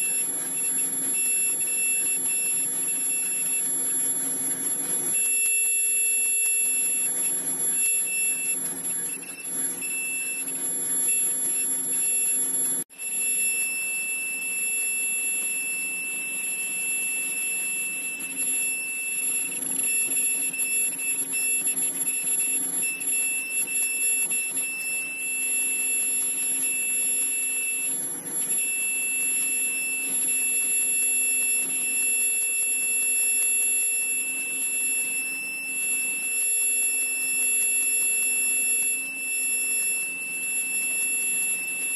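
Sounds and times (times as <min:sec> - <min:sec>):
machine high-pitched whine: 0:00.0 - 0:41.9.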